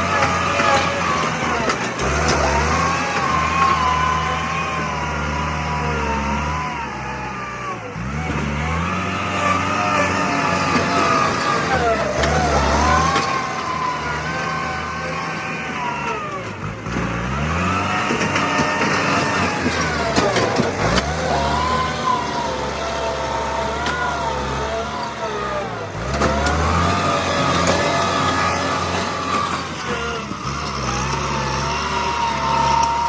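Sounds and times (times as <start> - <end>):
bulldozer diesel engine working: 0.0 - 33.0.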